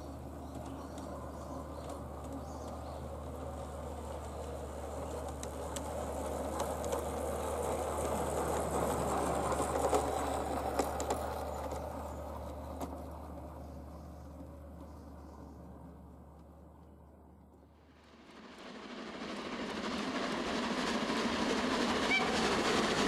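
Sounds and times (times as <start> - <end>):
model streetcar motor whirring: 0.0 - 23.0
wheels clicking on track: 0.0 - 23.0.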